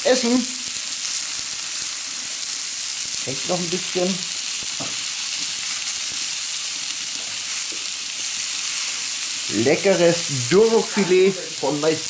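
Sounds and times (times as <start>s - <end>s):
meat skewers sizzling on hot plate: 0.0s - 12.0s.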